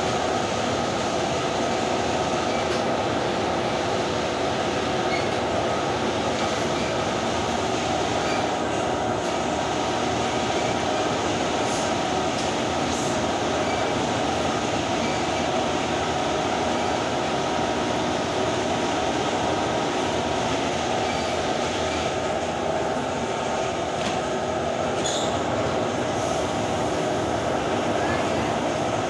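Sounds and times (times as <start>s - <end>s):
laundry machinery drone: 0.0s - 29.0s.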